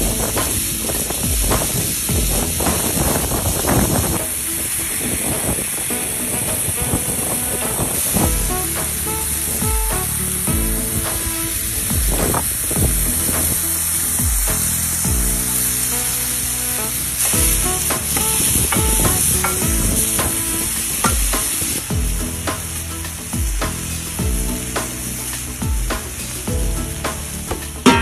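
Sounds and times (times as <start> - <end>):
meat and onions sizzling on griddle: 0.1 - 27.8.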